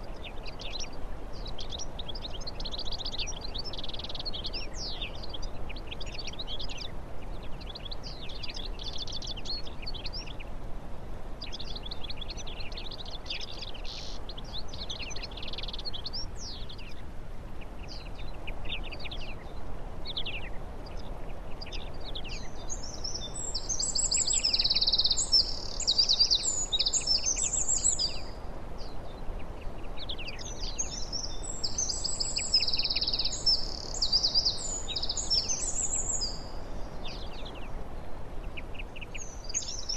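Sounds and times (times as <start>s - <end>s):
outdoor background hiss: 0.0s - 39.9s
songbirds chirping: 0.0s - 39.9s.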